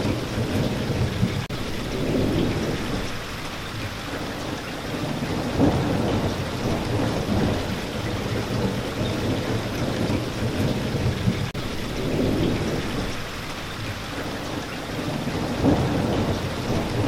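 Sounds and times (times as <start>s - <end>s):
low thunder rumbling: 0.0s - 17.0s
steady rain: 0.0s - 17.0s.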